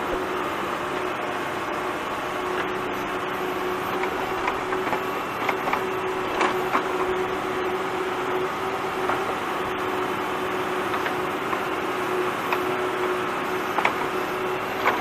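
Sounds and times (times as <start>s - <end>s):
diesel engine under hydraulic load: 0.0s - 15.0s.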